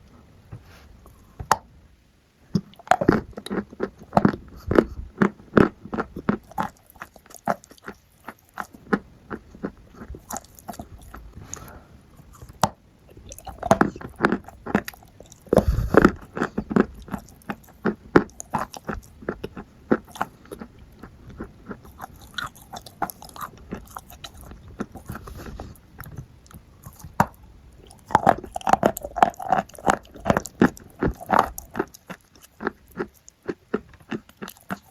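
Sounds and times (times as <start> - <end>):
person chewing crunchy food: 2.5 - 34.9.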